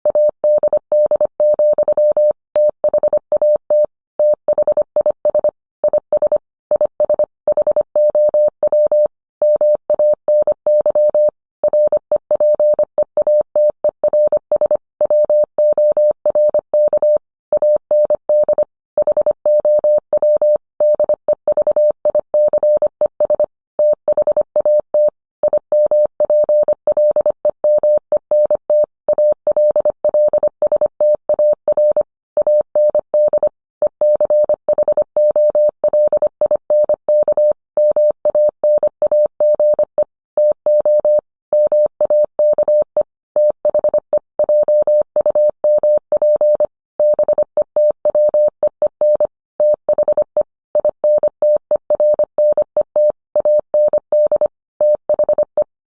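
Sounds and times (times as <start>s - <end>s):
morse code tone beeps: 0.1s - 55.7s.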